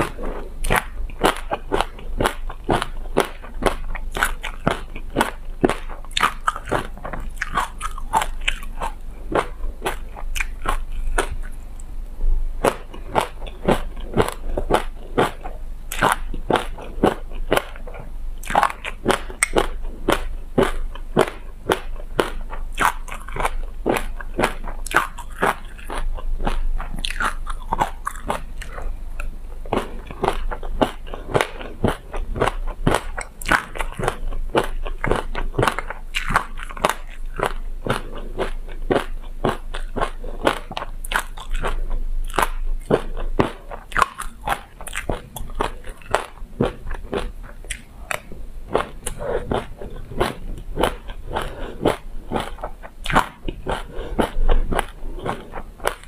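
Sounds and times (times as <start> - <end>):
crunchy chewing: 0.0 - 11.9, 12.6 - 56.0.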